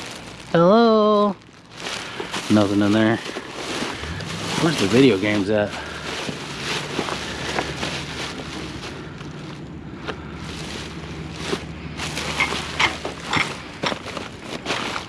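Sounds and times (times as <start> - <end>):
rustling of items: 0.0 - 15.0
steady low hum: 0.0 - 15.0.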